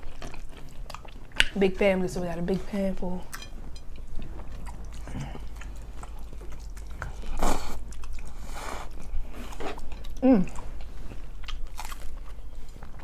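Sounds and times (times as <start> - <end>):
chewing with wet mouth clicks: 0.0 - 1.9, 3.3 - 13.0.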